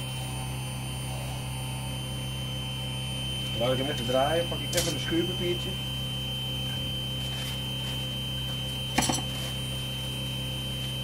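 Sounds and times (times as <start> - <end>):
high whine: 0.0 - 11.0
lathe motor hum: 0.0 - 11.0.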